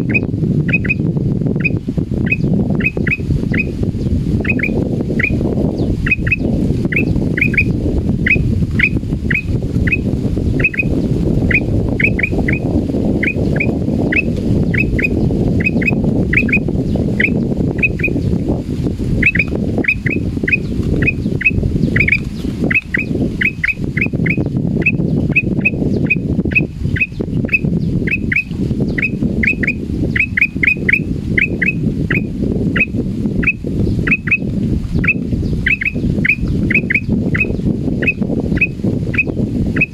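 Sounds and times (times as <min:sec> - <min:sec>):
bulbul sharp calls: 0:01.6 - 0:03.8, 0:04.4 - 0:05.4, 0:06.0 - 0:10.9, 0:11.5 - 0:12.6, 0:13.2 - 0:18.2, 0:19.2 - 0:34.4, 0:35.0 - 0:39.9.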